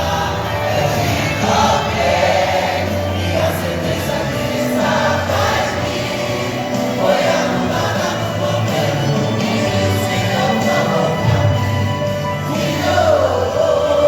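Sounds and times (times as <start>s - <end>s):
accompanying music: 0.0s - 14.0s
church choir singing a hymn: 0.0s - 14.0s.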